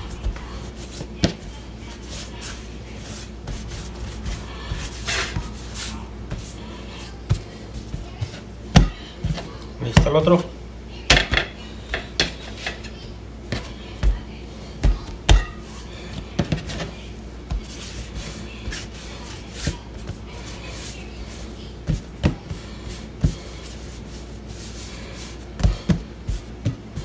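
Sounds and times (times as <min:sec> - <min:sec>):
hands rubbing bread dough: 0:00.0 - 0:08.5, 0:13.5 - 0:27.0.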